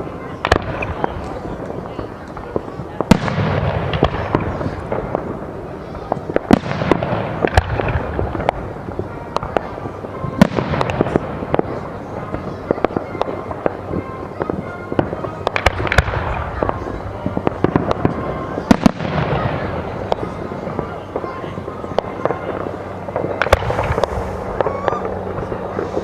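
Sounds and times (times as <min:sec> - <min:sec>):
firework bangs: 0:00.0 - 0:26.0.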